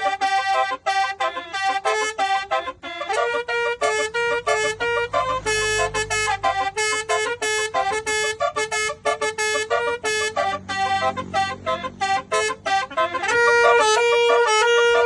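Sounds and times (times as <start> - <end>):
air horn playing a tune: 0.0 - 15.0.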